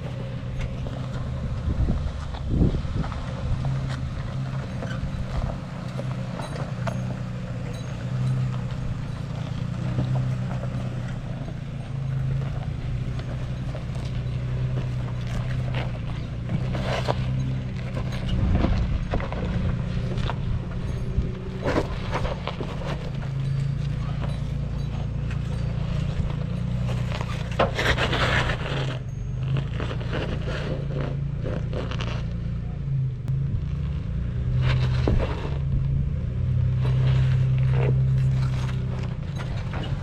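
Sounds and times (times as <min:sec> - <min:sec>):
tires and suspension clunking: 0:00.0 - 0:40.0
truck engine crawling: 0:00.0 - 0:40.0.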